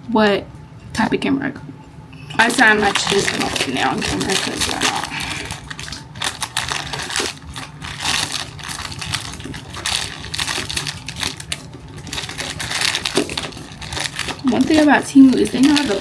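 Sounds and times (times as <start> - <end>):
packaging crinkling and tearing: 2.4 - 16.0.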